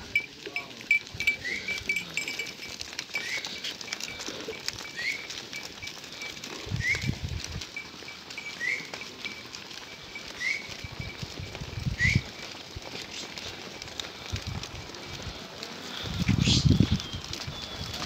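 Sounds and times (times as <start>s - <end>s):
goat hooves on dirt: 0.0s - 18.0s.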